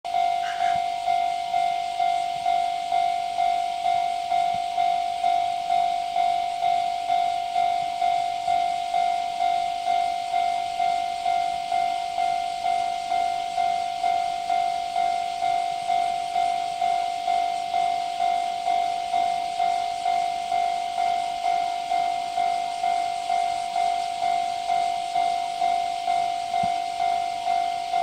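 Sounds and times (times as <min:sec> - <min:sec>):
level crossing bell ringing: 0:00.1 - 0:28.0.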